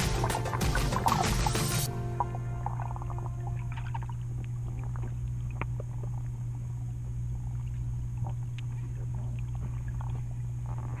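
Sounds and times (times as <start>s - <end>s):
underwater low hum: 0.0s - 11.0s.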